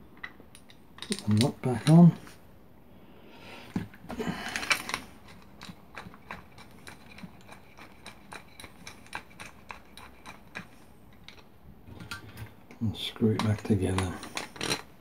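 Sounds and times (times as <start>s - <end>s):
small parts rattling: 0.2s - 2.3s, 3.7s - 12.4s, 13.2s - 15.0s.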